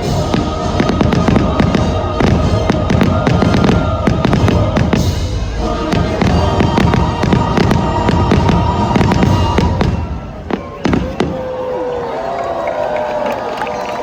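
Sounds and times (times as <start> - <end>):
fireworks bursting and crackling: 0.0 - 11.8.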